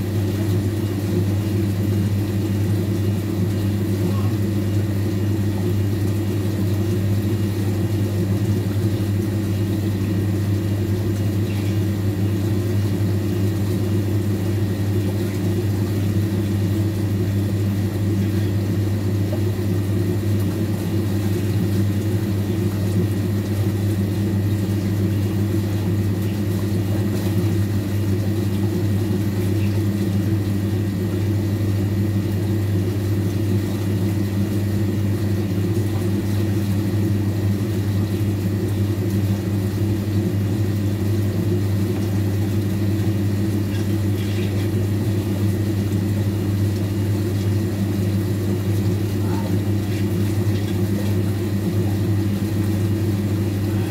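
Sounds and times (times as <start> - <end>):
washing machine motor humming: 0.0 - 53.9.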